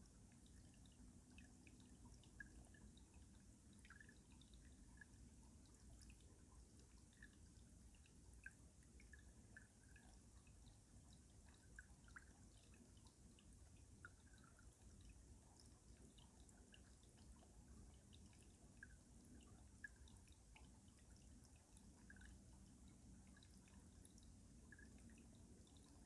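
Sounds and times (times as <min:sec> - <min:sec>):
water drips and plinks: 0:00.0 - 0:26.0.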